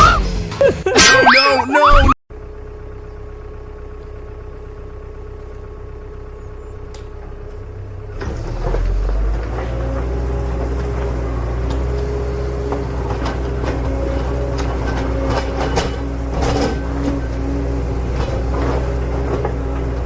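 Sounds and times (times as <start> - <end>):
deep engine rumble: 2.3 - 20.0
vehicle engine running: 2.3 - 20.0.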